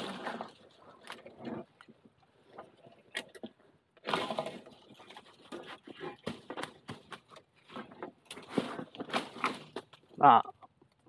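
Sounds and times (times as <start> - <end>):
dry leaves and twigs crackling: 0.0 - 11.0.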